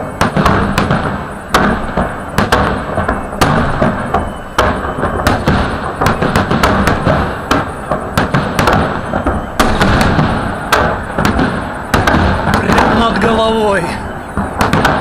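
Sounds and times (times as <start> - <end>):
continuous firework crackling: 0.0 - 15.0
firework shells banging: 0.0 - 15.0.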